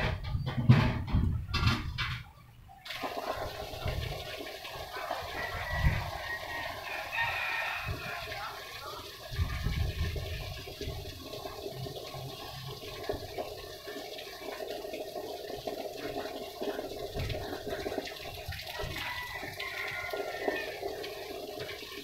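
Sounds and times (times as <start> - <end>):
water running: 2.9 - 22.0.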